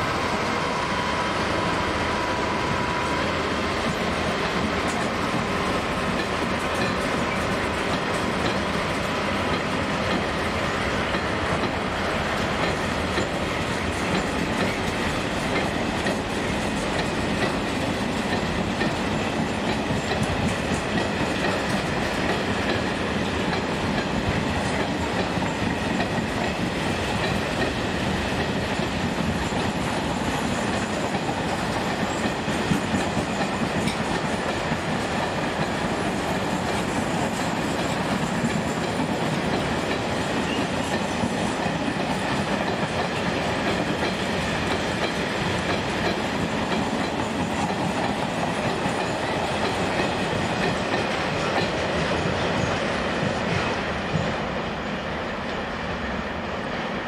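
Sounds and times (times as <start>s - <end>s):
train rolling on rails: 0.0s - 57.0s.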